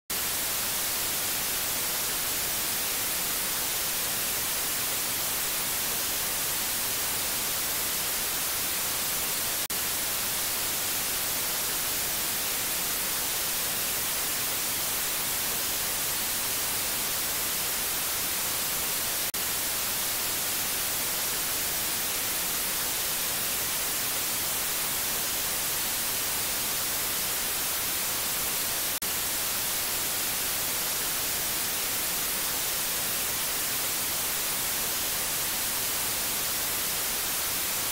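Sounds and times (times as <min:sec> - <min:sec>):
white noise hiss: 0:00.1 - 0:37.9.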